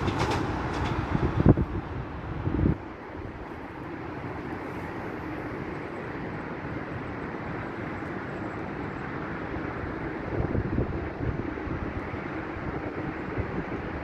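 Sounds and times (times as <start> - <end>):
electric train rumbling on track: 0.0 - 14.0.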